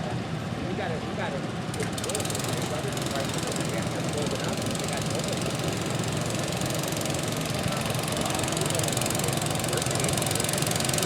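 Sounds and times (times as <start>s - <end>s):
garden tractor engine running: 1.4s - 11.0s.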